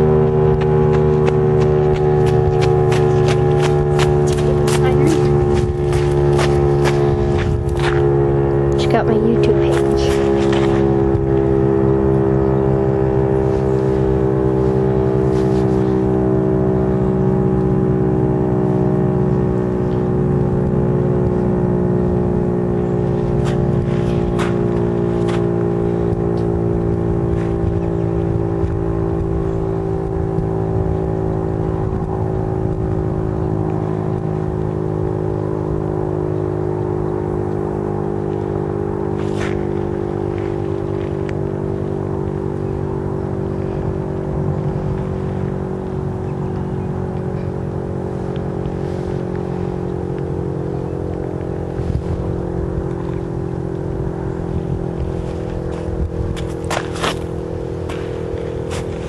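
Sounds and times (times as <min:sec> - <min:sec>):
tornado siren winding down: 0:00.0 - 0:59.0.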